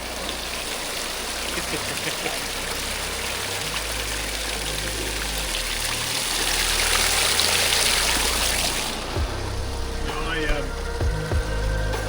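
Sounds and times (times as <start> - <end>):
low rumble: 0.0 - 12.0
rushing water and surf: 0.0 - 12.0.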